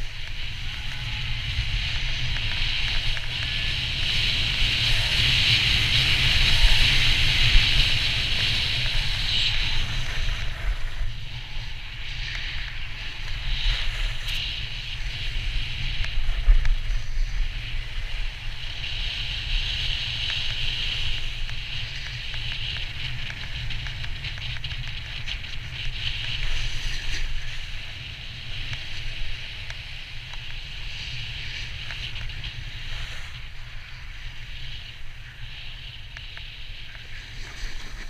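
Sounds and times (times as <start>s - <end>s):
snowboard scraping over snow: 0.0s - 38.0s
wind rumble on microphone: 0.0s - 38.0s.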